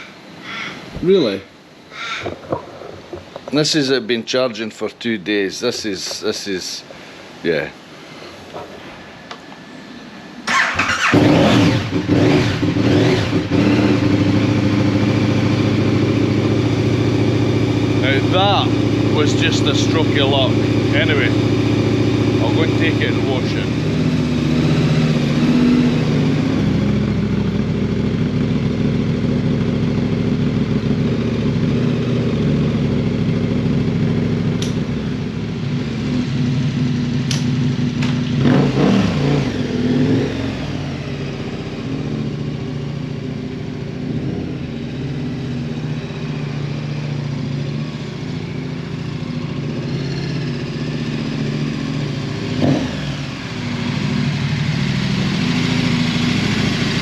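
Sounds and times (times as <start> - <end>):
engine clatter: 10.4 - 57.0
motorcycle engine running: 10.5 - 57.0.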